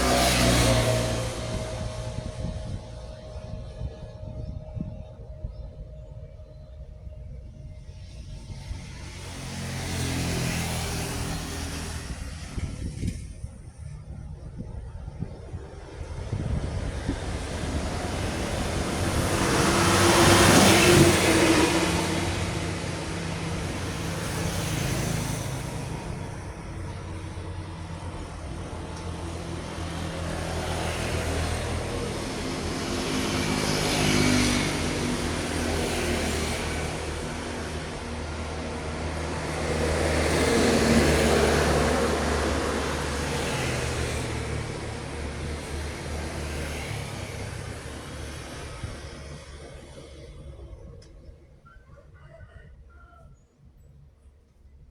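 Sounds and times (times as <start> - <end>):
low engine drone: 0.0 - 51.8
vehicles passing: 0.0 - 54.9.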